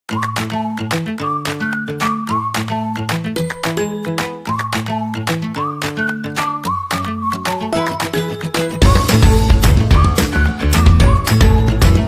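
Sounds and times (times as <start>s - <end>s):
upbeat background music: 0.1s - 12.0s.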